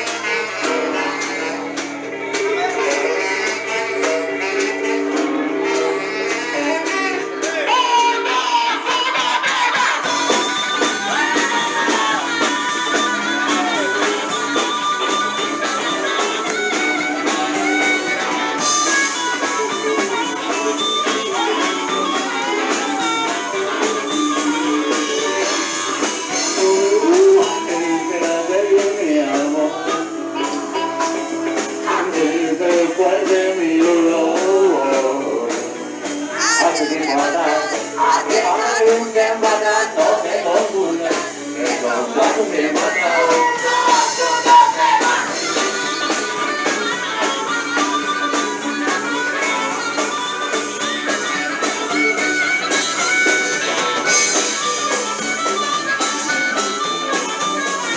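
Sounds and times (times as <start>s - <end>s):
person singing: 0.0s - 54.8s
blues rock band: 0.0s - 57.9s.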